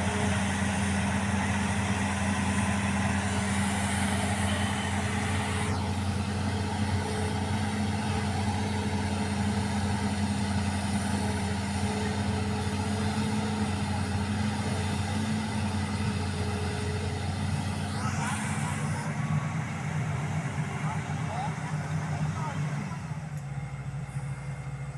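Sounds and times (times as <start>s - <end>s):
excavator diesel engine humming: 0.0s - 24.9s.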